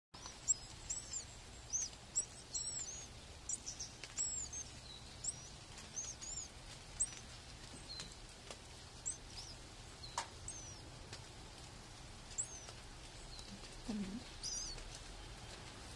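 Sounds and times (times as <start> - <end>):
small birds chirping: 0.1 - 15.9.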